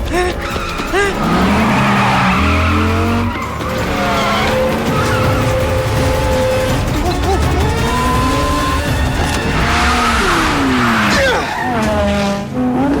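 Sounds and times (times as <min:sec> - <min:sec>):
car engines running hard: 0:00.3 - 0:13.0
car tyres squealing: 0:00.3 - 0:13.0.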